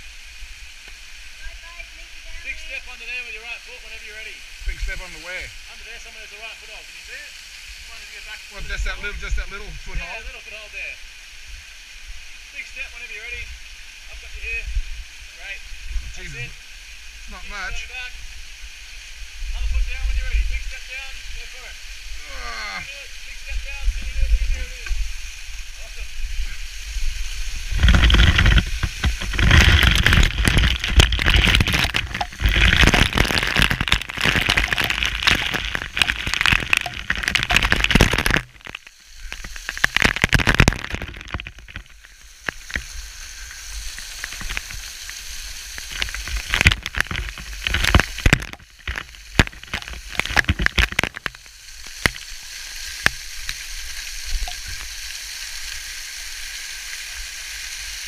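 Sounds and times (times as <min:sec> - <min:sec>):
waterfall water spattering on microphone: 0:00.0 - 0:58.0.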